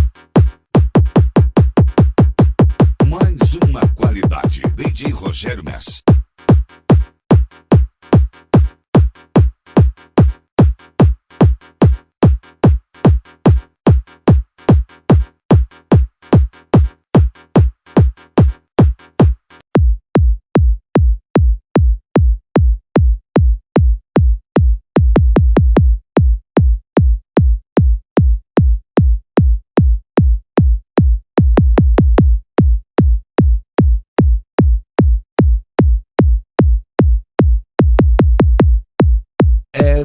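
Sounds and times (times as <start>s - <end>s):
drum machine bass kicks: 0.0s - 14.8s, 15.5s - 40.0s.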